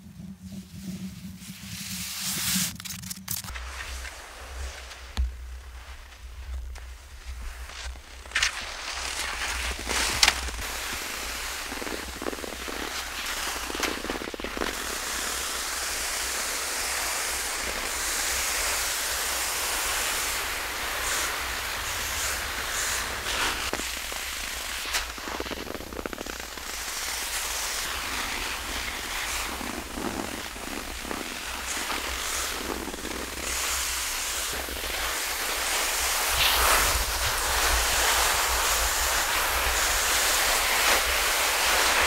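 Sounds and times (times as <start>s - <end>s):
skis sliding over crusted snow: 0.4s - 42.0s.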